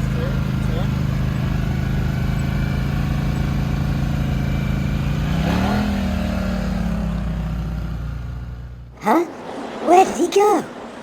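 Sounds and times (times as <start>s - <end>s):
off-road vehicle engine revving: 0.0s - 9.0s.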